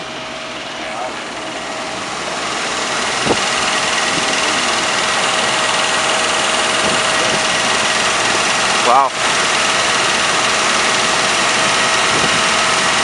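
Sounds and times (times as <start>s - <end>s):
steady whine: 0.0s - 13.0s
truck engine idling: 0.0s - 13.0s.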